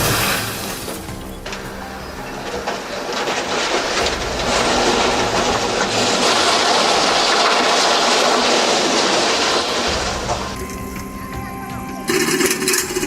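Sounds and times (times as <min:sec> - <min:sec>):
demolition debris crashing: 0:00.0 - 0:13.0.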